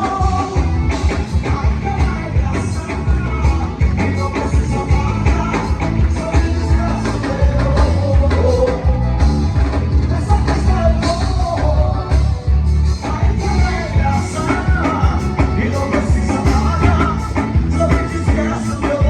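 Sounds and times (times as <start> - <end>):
live band with singer: 0.0 - 19.0.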